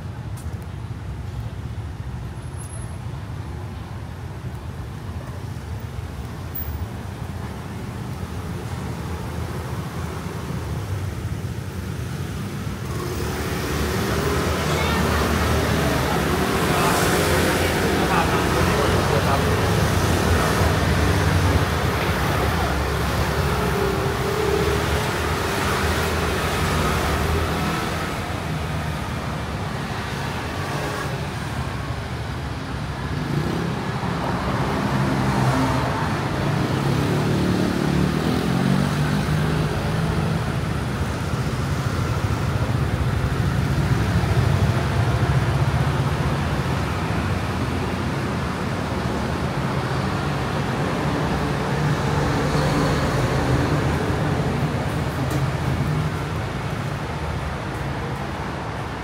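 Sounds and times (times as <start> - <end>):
scooter engines passing: 6.5 - 59.0.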